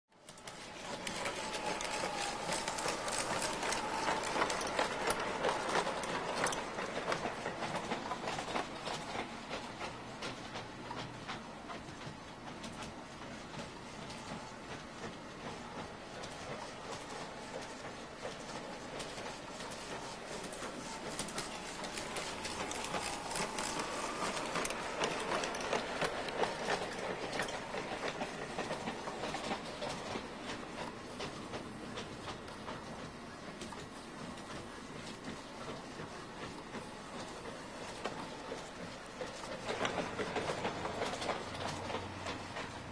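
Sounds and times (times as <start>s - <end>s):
faint motor whine: 0.2s - 9.8s, 13.5s - 42.9s
model train rumbling on track: 0.2s - 42.9s.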